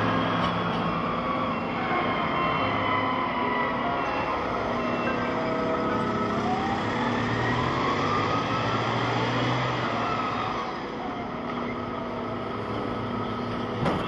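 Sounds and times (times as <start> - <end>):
engine and machinery hum: 0.0 - 14.0.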